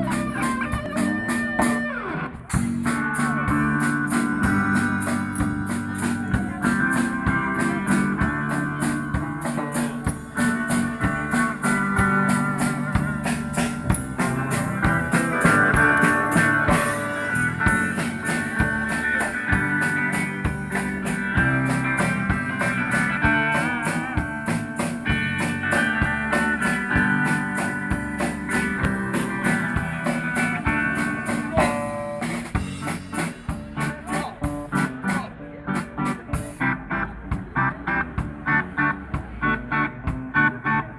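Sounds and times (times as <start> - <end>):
drum kit beat: 0.0 - 40.9
electric guitars: 0.0 - 40.9.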